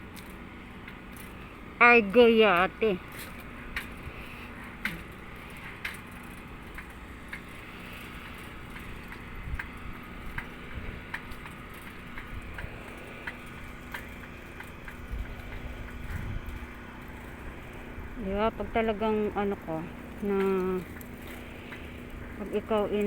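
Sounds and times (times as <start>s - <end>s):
outdoor background hum: 0.0s - 23.0s.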